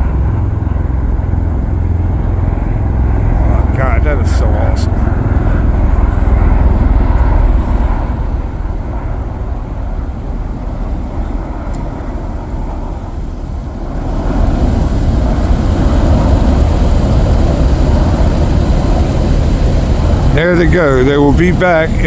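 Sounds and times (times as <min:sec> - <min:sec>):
tiltrotor aircraft rotor rumble: 0:00.0 - 0:22.0.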